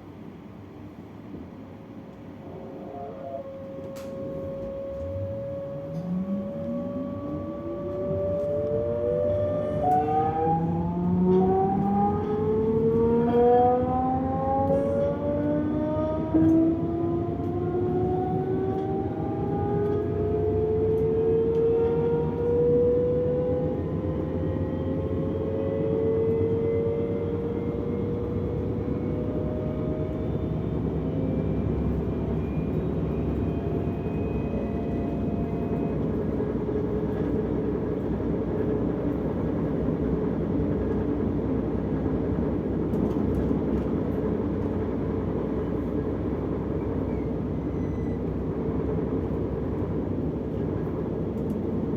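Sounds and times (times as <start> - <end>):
electric train traction whine: 2.1 - 51.9
wheels rumbling on track: 2.1 - 51.9.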